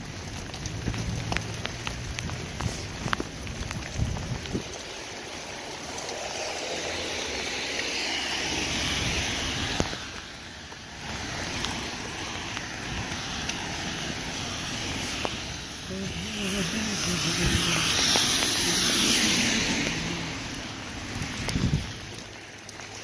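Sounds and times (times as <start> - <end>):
car tyre hiss on wet road: 0.0 - 23.0
rain on a wet street: 0.0 - 23.0.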